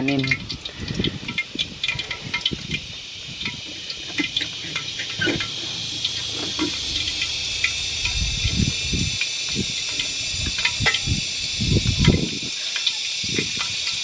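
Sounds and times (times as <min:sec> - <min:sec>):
firewood crackling and popping: 0:00.0 - 0:14.0
steady high hiss: 0:00.0 - 0:14.0.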